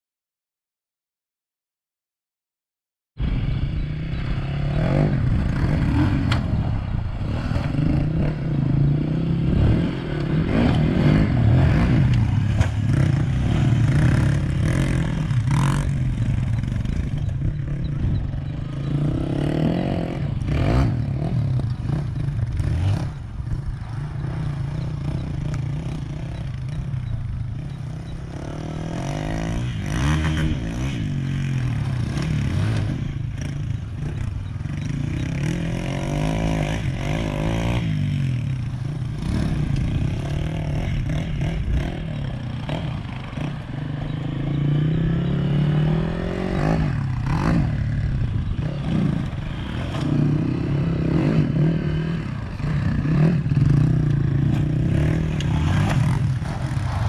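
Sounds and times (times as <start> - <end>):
motorcycle engines revving: 3.2 - 57.0.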